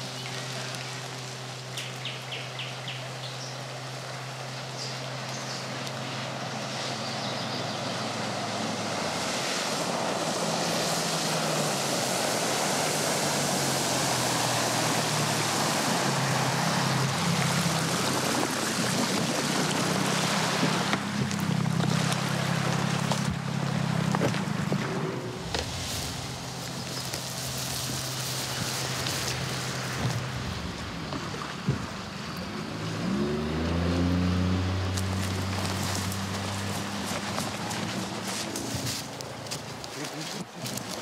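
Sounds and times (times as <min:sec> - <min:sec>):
motorboat engine running: 0:00.0 - 0:41.0
water noise: 0:00.0 - 0:41.0.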